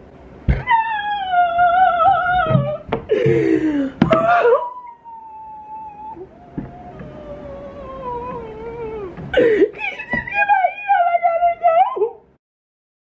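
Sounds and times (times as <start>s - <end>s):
woman moaning: 0.5s - 11.4s
woman wailing: 0.5s - 12.2s
woman sobbing: 0.6s - 12.2s.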